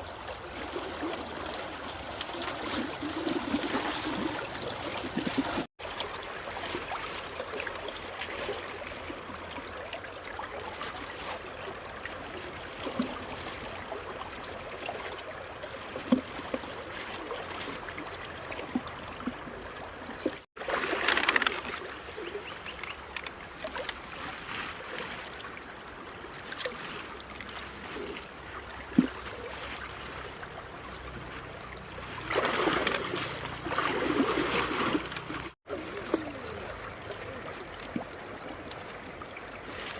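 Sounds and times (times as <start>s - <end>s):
water splashing: 0.0s - 39.9s
water trickling and flowing: 0.0s - 39.9s.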